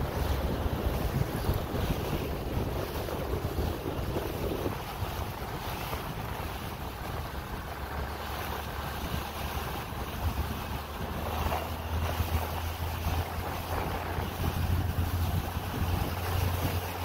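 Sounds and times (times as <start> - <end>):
water rushing: 0.0 - 17.0
wind buffeting microphone: 0.0 - 17.0.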